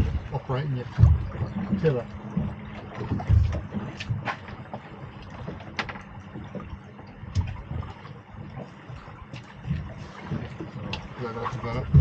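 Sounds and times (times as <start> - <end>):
low thumps: 0.0 - 11.2, 11.8 - 12.0
water lapping against boat hull: 0.0 - 12.0
boat gear knocks and clicks: 0.9 - 12.0.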